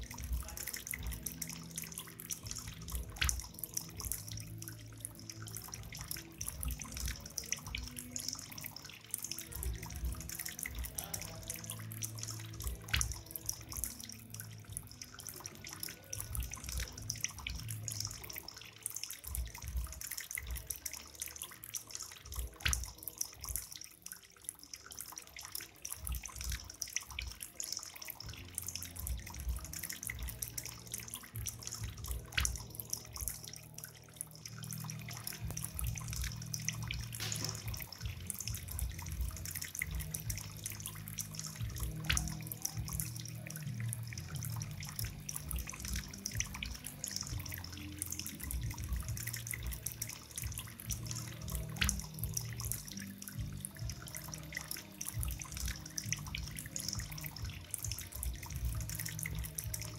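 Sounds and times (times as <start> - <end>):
fountain water trickling: 0.0 - 59.9
water drips and splashes: 0.0 - 59.9.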